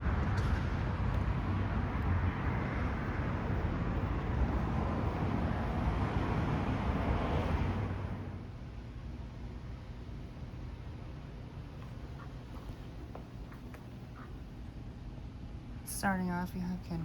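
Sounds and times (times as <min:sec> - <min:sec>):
low rumbling noise: 0:00.0 - 0:16.1.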